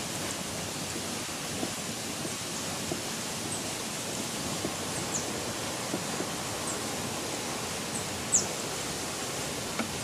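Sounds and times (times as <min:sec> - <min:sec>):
rural ambience hiss: 0:00.0 - 0:10.0.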